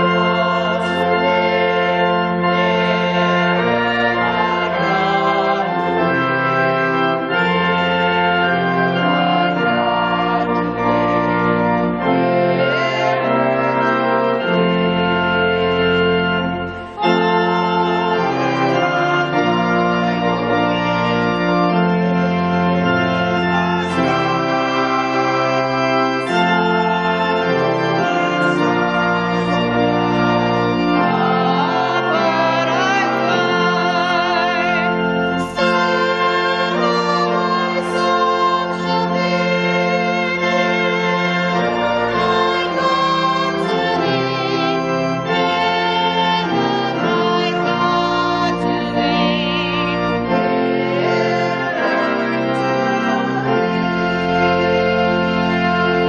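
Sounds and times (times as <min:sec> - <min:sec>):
organ chords: 0:00.0 - 0:56.0.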